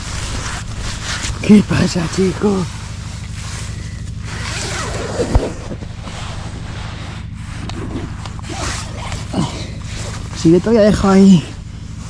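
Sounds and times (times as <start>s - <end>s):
tent fabric rustling: 0.0s - 12.0s.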